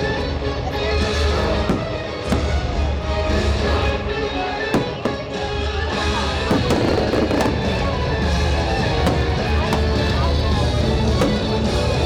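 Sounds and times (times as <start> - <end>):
music playing: 0.0 - 12.0
firework bangs: 1.4 - 12.0.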